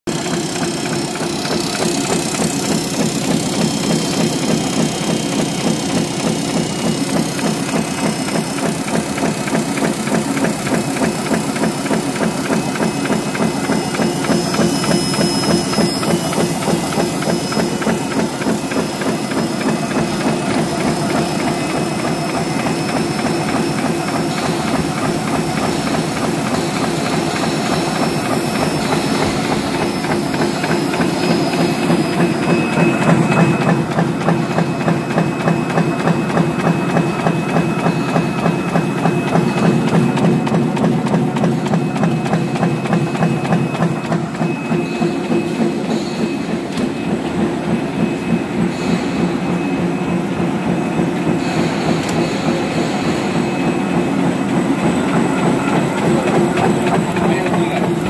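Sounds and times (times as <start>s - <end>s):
punching machine clattering: 0.1s - 49.8s, 50.5s - 58.0s.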